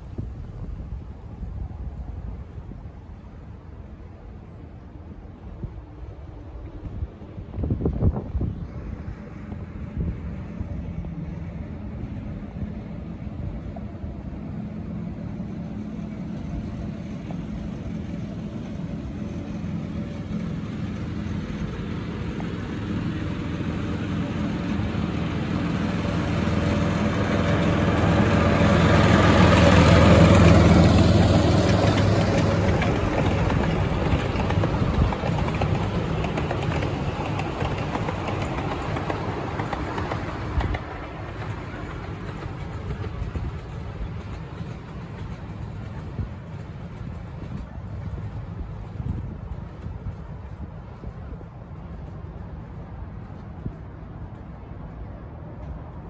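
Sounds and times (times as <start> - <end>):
diesel locomotive passing: 0.0 - 56.0.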